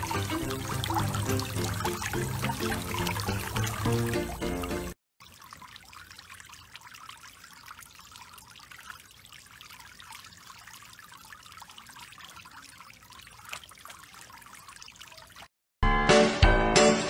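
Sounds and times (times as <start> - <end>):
sprinkler water splashing on plastic: 0.0 - 15.5.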